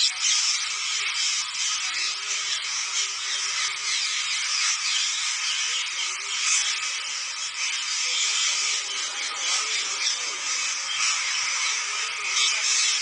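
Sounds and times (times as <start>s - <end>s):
flock of parakeets calling: 0.0s - 13.0s.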